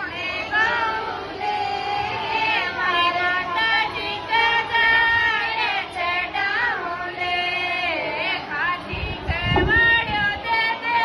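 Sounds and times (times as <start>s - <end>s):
women singing devotional folk song: 0.0s - 11.0s.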